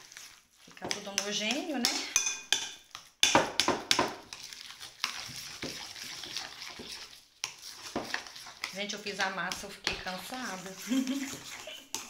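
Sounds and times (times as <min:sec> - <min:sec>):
hand mixing wet squelching: 0:00.0 - 0:12.0.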